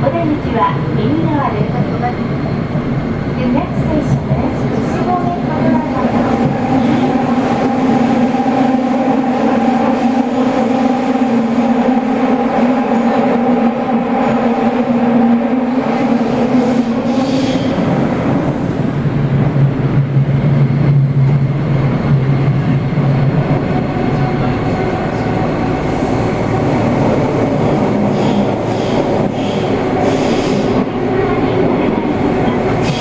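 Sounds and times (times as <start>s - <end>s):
subway train running in tunnel: 0.0s - 33.0s.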